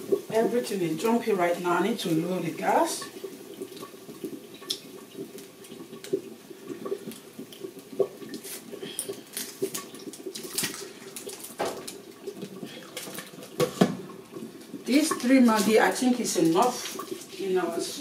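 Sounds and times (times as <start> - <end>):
crackle and pops of frying: 0.0 - 18.0
stew bubbling in a pot: 0.0 - 18.0.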